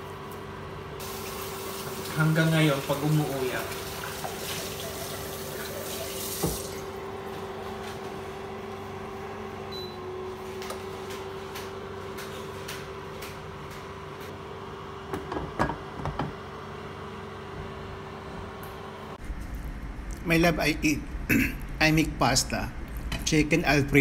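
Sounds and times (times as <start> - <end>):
background hum and hiss: 0.0 - 24.0.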